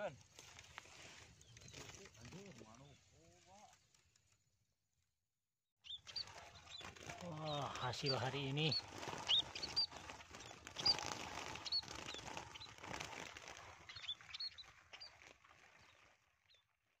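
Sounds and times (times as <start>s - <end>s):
small birds chirping: 0.0s - 3.8s, 5.8s - 16.8s
rustling in wire cages: 0.1s - 4.3s, 6.0s - 16.1s.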